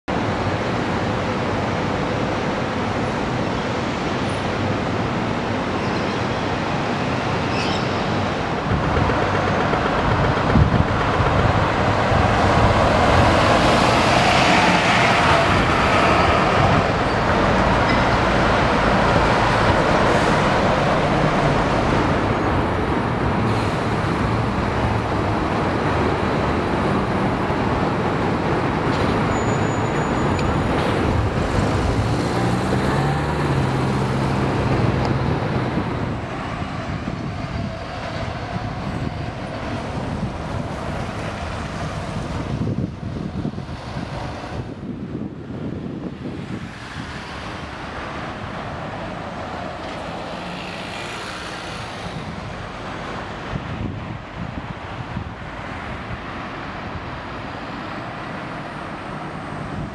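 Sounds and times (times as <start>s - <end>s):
vehicles passing on road: 0.1s - 59.9s.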